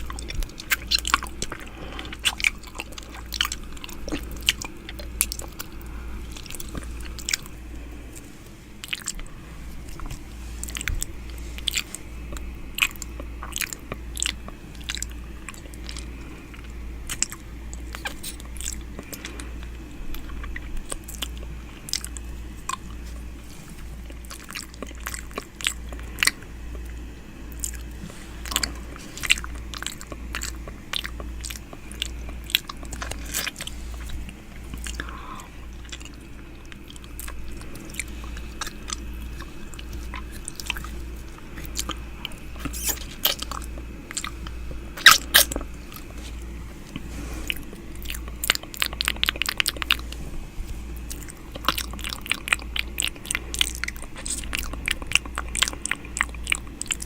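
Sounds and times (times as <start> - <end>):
low steady hum: 0.0 - 57.0
wet mouth sounds: 0.0 - 57.0.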